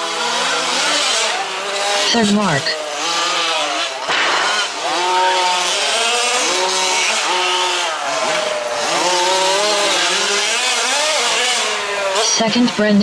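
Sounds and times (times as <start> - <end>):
rc truck engines revving: 0.0 - 13.0.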